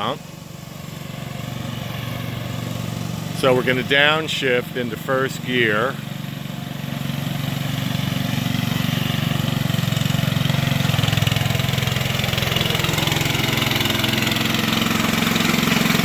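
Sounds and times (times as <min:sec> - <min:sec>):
small engine running under load: 0:00.0 - 0:16.0.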